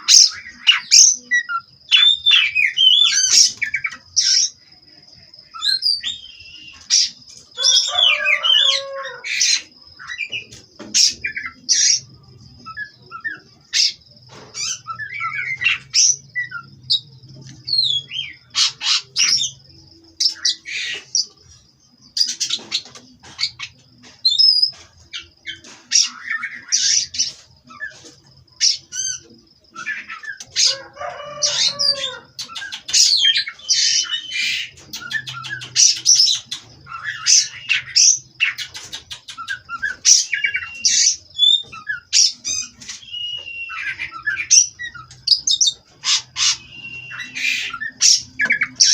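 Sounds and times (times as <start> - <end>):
bird song whistles and chirps: 0.0 - 4.6, 5.4 - 21.4, 22.1 - 48.9.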